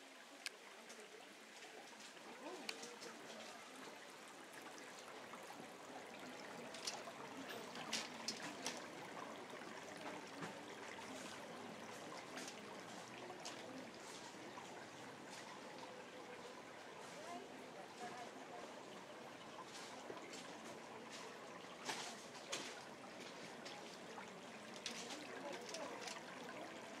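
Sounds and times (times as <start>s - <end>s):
trickling running water: 0.0s - 27.0s.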